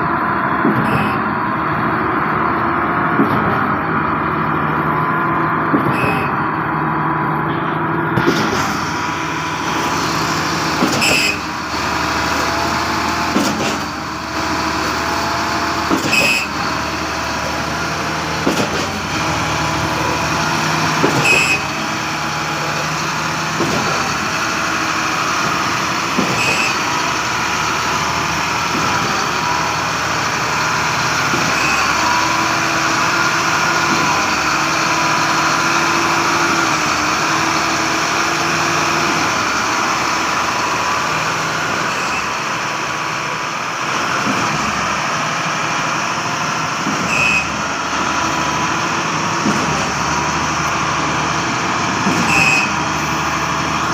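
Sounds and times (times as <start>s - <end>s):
pump truck engine drone: 0.0s - 53.9s.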